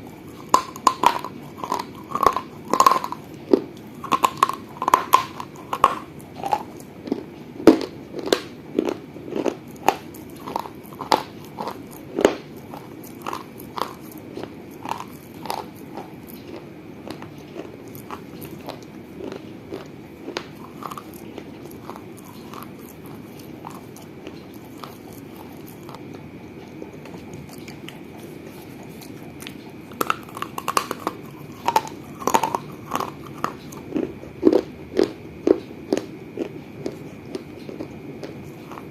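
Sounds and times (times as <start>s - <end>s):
biting and chewing clay crunches: 0.0s - 38.9s.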